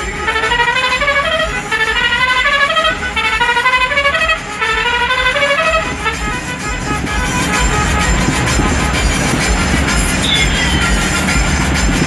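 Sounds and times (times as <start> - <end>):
musical air horn playing tune: 0.0 - 11.9
bus engine and road rumble: 0.0 - 12.0.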